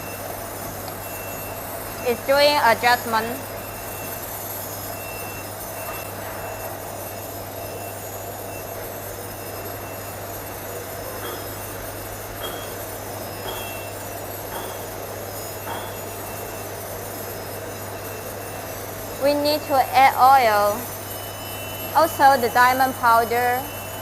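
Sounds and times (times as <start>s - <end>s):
machine electric hum: 0.0s - 24.0s.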